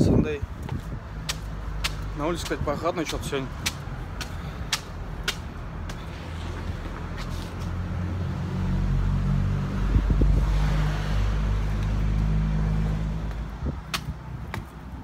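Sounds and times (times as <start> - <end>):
vehicle passing rumble: 0.4 - 15.0.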